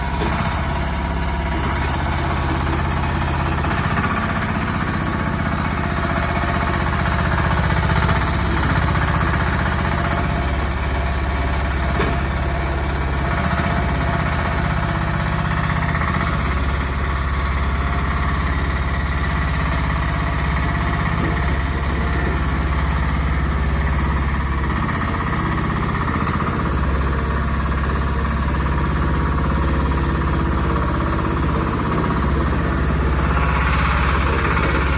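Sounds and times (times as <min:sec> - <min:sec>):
excavator engine clattering: 0:00.0 - 0:34.9.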